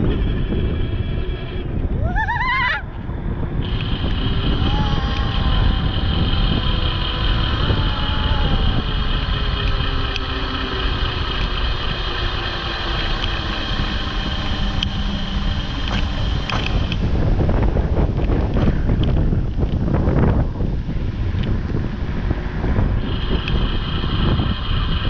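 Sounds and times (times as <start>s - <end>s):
wind rushing over microphone: 0.0s - 25.0s
electric motor whine: 3.1s - 25.0s.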